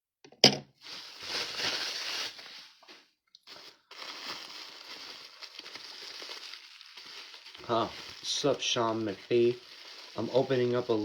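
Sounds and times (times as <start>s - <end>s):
packing material crinkling: 0.8s - 11.0s.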